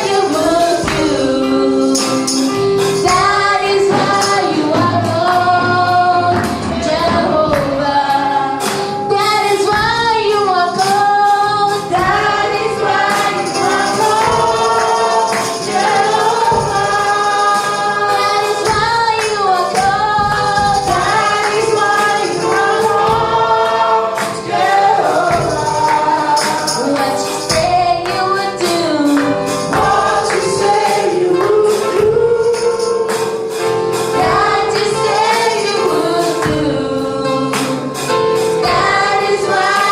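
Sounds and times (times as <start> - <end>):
tambourine shaking: 0.0 - 5.2, 8.7 - 39.9
choir singing gospel: 0.0 - 39.9.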